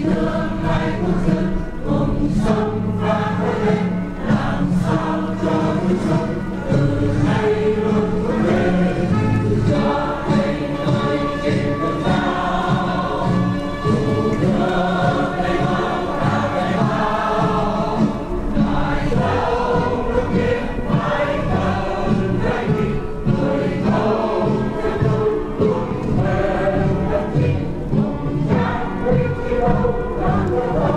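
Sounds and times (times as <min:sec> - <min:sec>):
choir singing: 0:00.0 - 0:30.9.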